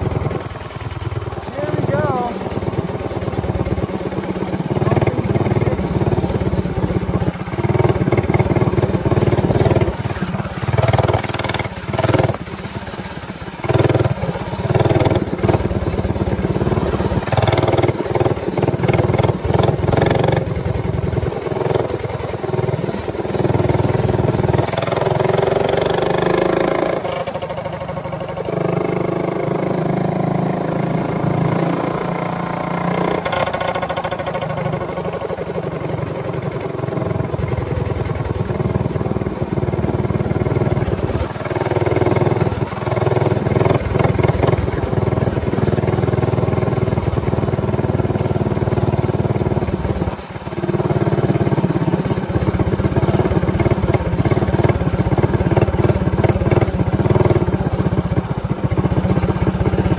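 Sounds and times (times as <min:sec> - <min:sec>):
minibike engine revving: 0:00.0 - 0:59.9.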